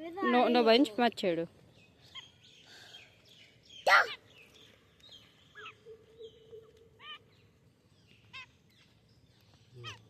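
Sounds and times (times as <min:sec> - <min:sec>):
faint bird chirping: 0:00.2 - 0:10.0.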